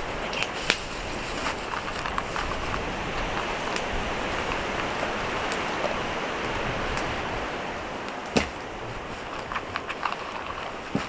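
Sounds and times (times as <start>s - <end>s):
small crackles: 0.0s - 11.0s.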